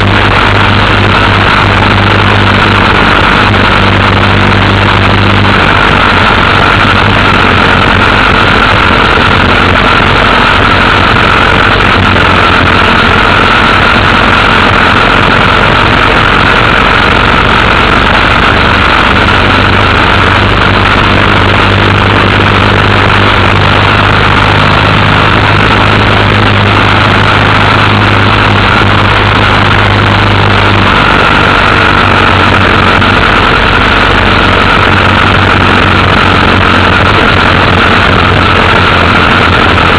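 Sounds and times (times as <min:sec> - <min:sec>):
loud rushing wind noise: 0:00.0 - 0:39.9
motorcycle engine running: 0:00.0 - 0:39.9.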